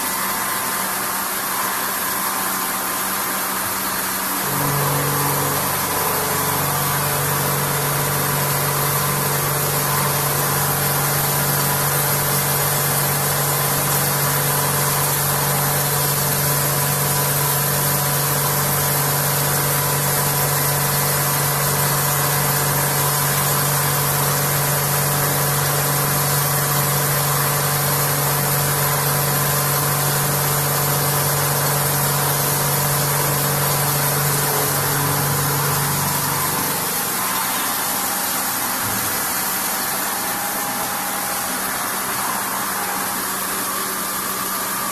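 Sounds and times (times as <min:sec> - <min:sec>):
milling machine hum: 0:00.0 - 0:44.9.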